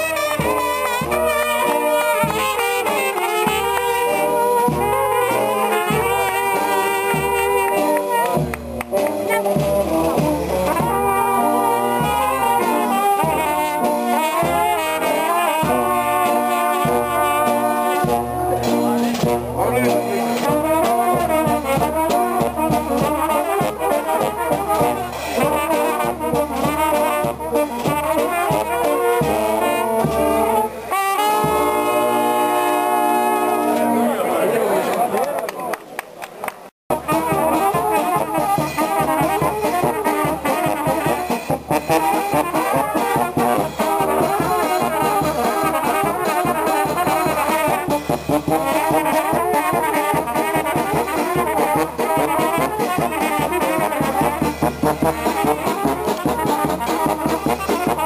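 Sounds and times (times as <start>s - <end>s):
steady drumbeat: 0.0s - 30.4s, 36.9s - 58.0s
bass horn low notes: 0.0s - 34.6s, 36.9s - 58.0s
brass band playing lively tune: 0.0s - 35.8s, 36.9s - 58.0s.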